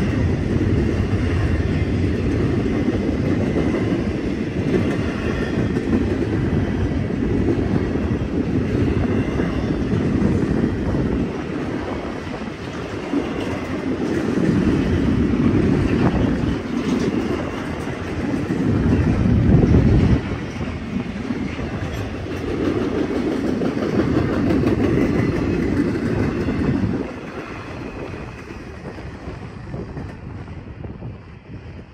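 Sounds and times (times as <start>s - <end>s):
freight train wheels rumbling: 0.0s - 31.9s.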